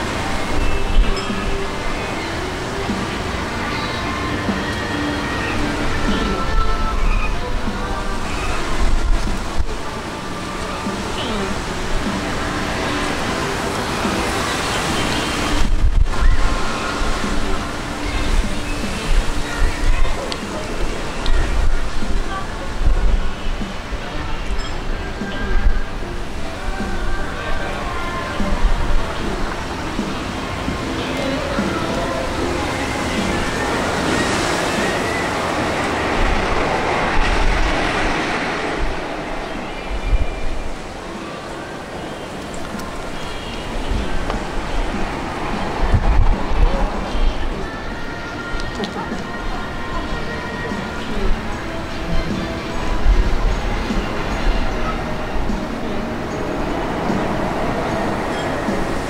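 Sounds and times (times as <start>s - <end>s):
steady rushing outdoor noise: 0.0s - 59.0s.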